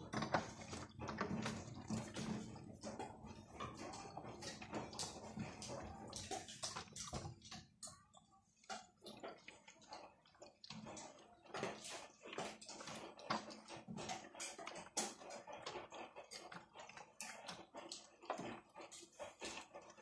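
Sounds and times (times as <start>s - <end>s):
water sloshing in washing machine drum: 0.0s - 20.0s.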